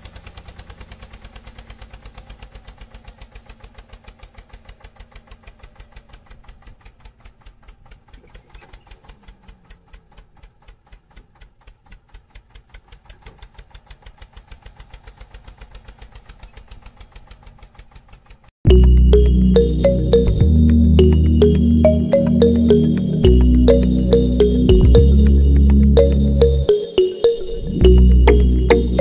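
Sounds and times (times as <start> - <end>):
diesel tractor engine chugging: 0.0 - 26.6.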